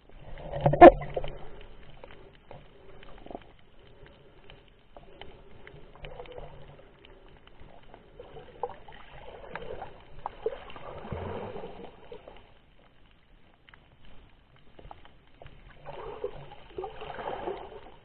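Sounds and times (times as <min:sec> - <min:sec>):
small clicks and crackles: 0:00.0 - 0:18.0
water sloshing and rushing underwater: 0:00.0 - 0:18.0.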